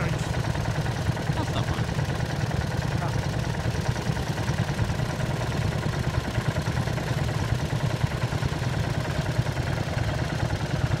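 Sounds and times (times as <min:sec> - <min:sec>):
small tractor engine chugging: 0:00.0 - 0:11.0.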